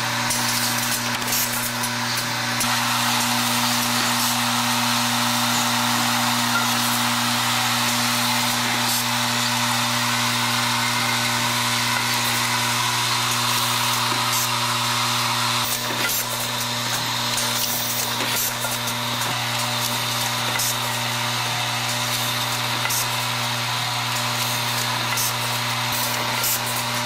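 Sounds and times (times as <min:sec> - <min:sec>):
vibratory feeder electromagnetic buzz: 0:00.0 - 0:27.0.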